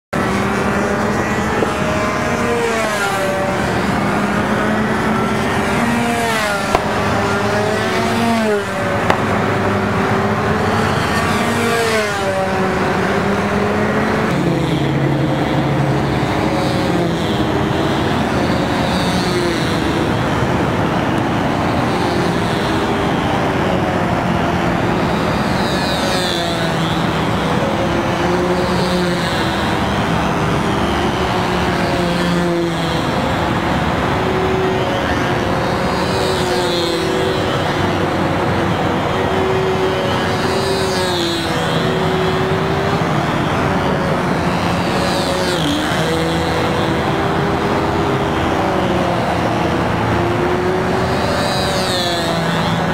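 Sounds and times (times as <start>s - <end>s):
model airplane engine running: 0.2s - 52.9s.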